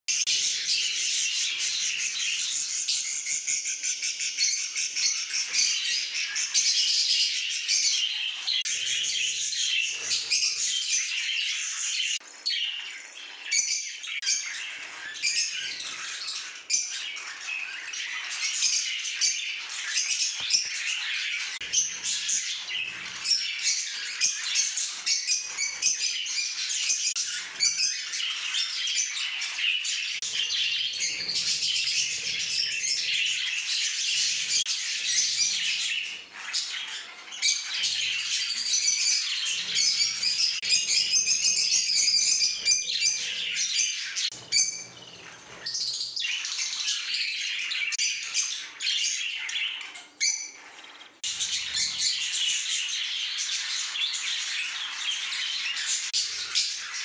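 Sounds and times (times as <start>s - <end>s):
budgerigars chattering: 0.1s - 57.0s.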